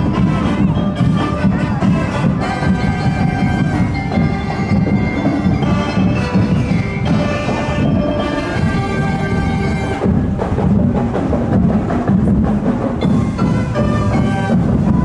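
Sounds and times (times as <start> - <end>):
brass melody: 0.0 - 10.4, 13.0 - 15.0
drums beating: 0.0 - 15.0.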